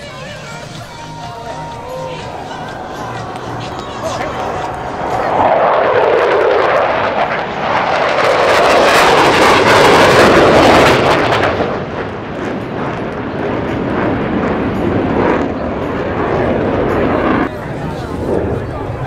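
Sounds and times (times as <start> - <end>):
jet engines rushing overhead: 0.0 - 19.0.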